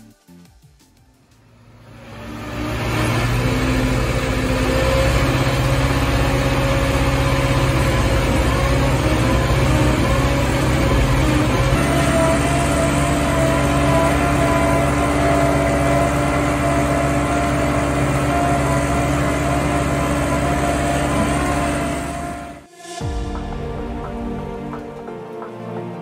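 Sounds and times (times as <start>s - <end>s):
feed mixer machine drone: 1.4s - 23.2s.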